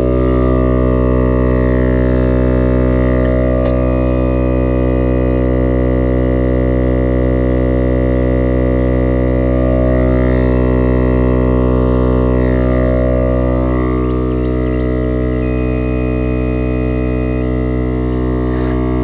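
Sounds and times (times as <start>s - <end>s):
air compressor droning: 0.0s - 19.0s.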